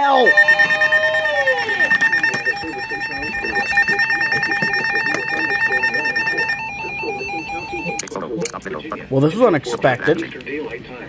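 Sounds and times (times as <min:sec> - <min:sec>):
steady high alert tone: 0:00.0 - 0:09.0
rapid alert beeping: 0:00.0 - 0:09.1.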